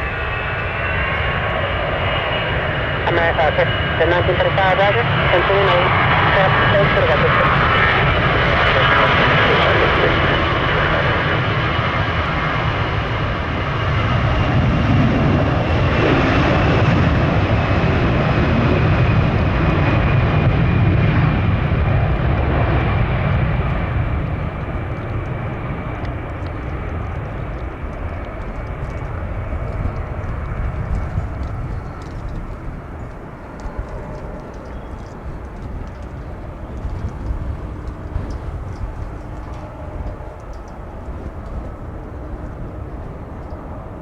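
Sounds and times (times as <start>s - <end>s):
jet engines rumbling and whining: 0.0s - 44.0s.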